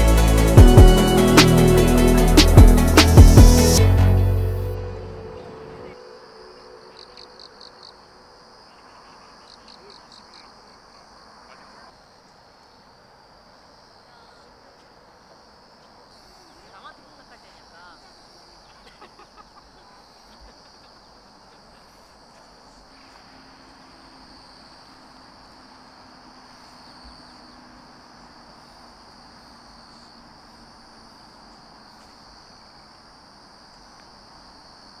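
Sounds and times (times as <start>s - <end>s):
crickets chirring: 5.3s - 35.0s.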